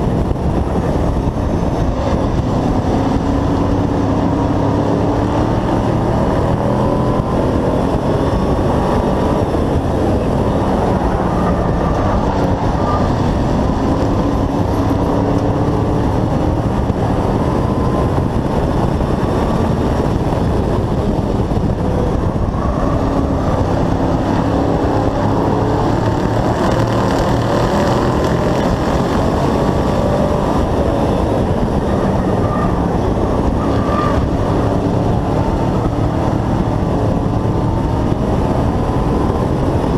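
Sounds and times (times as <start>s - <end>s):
constant rumble: 0.0s - 39.9s
race truck engine running hard: 0.0s - 39.9s.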